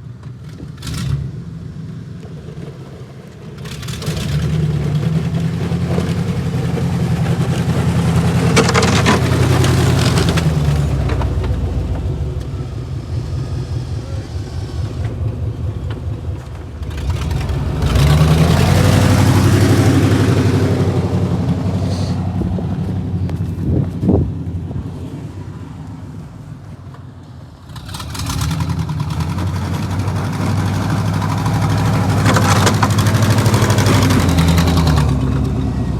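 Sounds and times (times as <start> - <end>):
vehicle engine revving: 0.4 - 26.9, 27.5 - 35.9.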